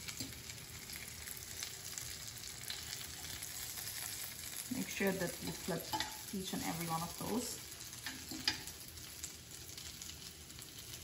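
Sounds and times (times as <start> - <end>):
cutlets sizzling in a pan: 0.0 - 11.0.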